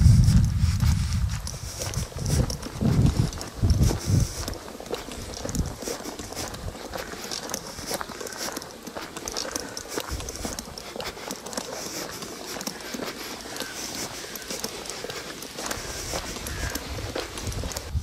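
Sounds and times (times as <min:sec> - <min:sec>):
footsteps crunching on gravel: 0:00.0 - 0:18.0.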